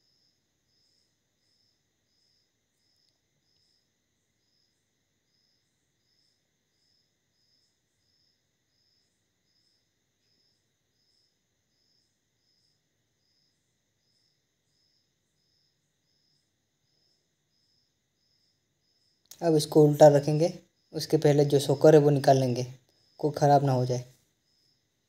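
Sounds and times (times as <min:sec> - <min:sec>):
faint high insect-like chirp: 0:00.0 - 0:25.0.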